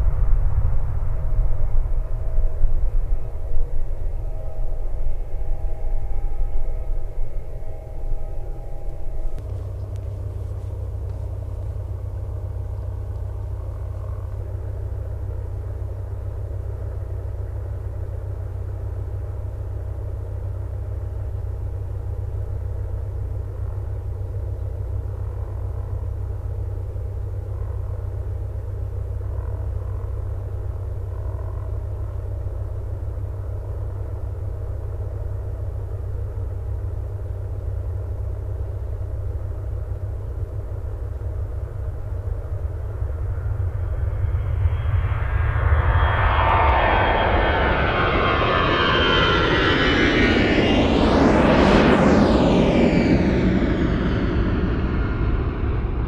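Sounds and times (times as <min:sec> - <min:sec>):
jet engine low rumble: 0:00.0 - 0:56.0
jet engine whine: 0:00.0 - 0:56.0.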